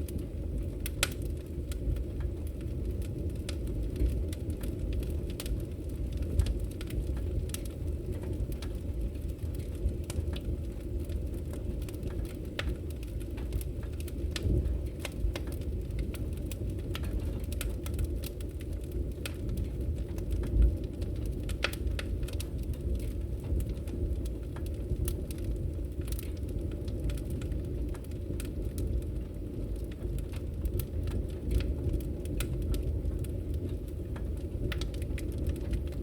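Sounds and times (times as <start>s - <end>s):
fire pops and snaps: 0.0s - 36.0s
log fire crackling: 0.0s - 36.0s.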